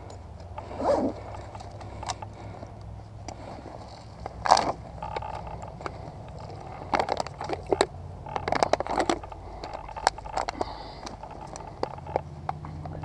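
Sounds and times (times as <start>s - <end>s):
clicks and scrapes of straps: 0.0s - 13.0s.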